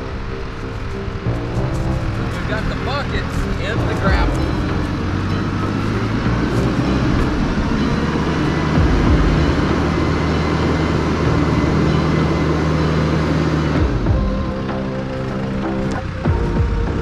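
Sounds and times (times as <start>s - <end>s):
tractor diesel engine running: 0.0s - 17.0s
low thumps: 1.2s - 12.6s, 13.3s - 17.0s.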